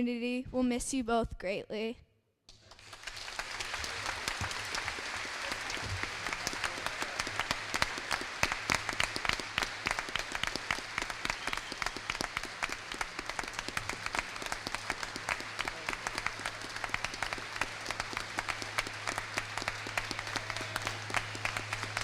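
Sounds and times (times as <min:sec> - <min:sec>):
audience applauding: 0:02.5 - 0:22.0.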